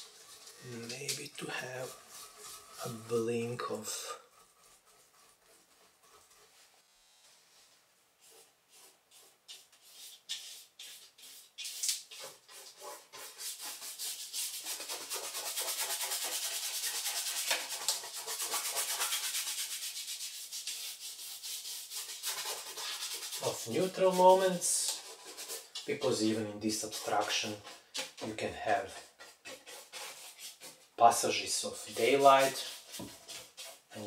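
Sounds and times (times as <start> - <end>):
paintbrush scrubbing canvas: 0.0 - 34.0.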